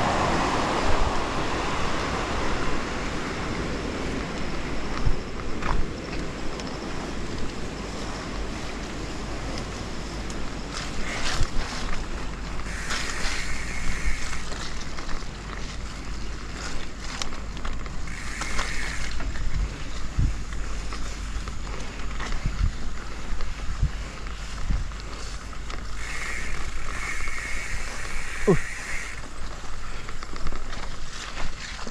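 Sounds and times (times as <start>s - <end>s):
wind buffeting microphone: 0.0s - 30.3s
bike knocking and rattling: 4.4s - 31.9s.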